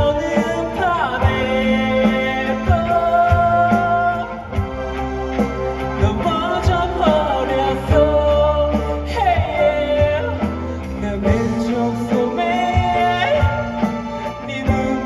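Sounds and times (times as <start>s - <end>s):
live rock band playing: 0.0s - 15.0s
man singing: 0.0s - 15.0s.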